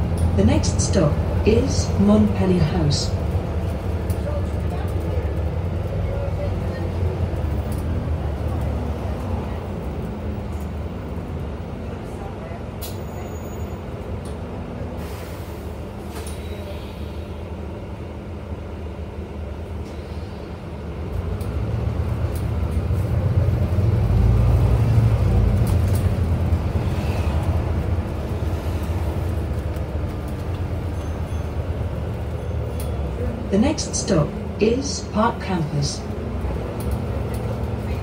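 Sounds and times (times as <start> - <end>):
bus engine and road noise drone: 0.0 - 38.0.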